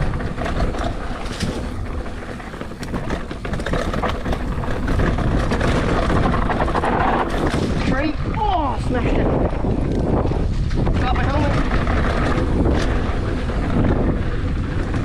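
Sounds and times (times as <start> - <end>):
bike chain and frame rattling: 0.0 - 15.0
tyres rumbling on dirt and stones: 0.0 - 15.0
wind buffeting microphone: 0.0 - 15.0.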